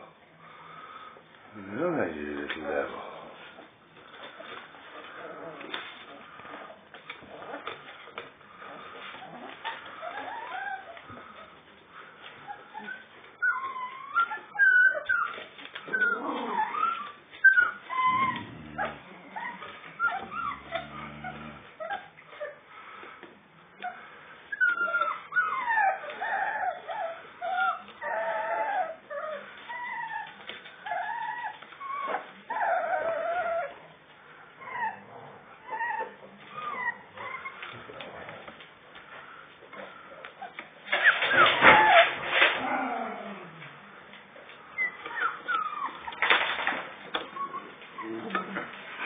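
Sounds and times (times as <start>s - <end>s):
puppies whining and whimpering: 1.7s - 23.0s, 23.7s - 49.0s.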